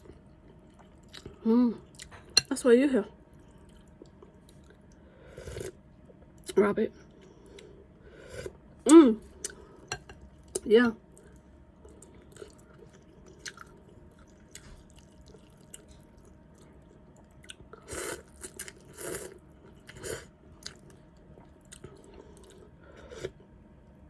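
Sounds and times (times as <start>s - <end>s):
person chewing soup: 0.0s - 2.4s, 3.4s - 6.5s, 9.3s - 23.5s.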